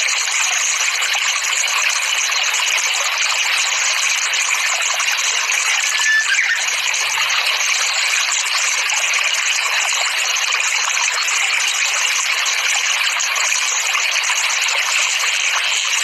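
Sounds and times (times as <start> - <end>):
flowing water: 0.0 - 16.0.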